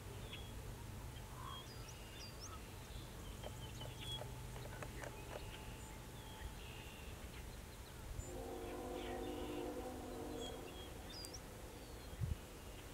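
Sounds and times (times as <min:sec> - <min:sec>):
waterside ambience: 0:00.0 - 0:12.9.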